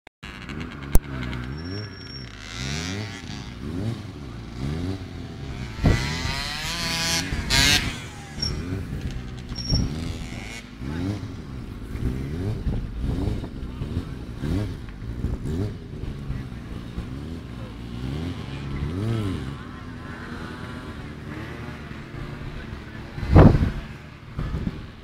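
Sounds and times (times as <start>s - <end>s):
motorcycle engine revving: 0.2s - 25.0s.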